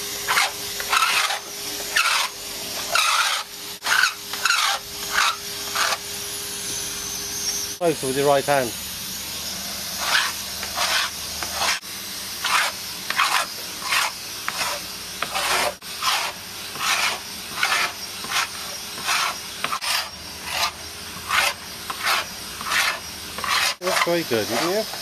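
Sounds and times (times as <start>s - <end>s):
scraper rasping paint off hull: 0.3s - 6.0s, 10.0s - 11.8s, 12.4s - 24.9s.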